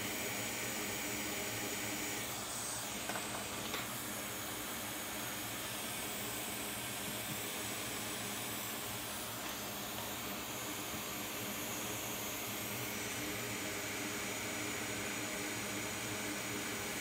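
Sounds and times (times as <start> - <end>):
hot air station hiss: 0.0 - 16.6.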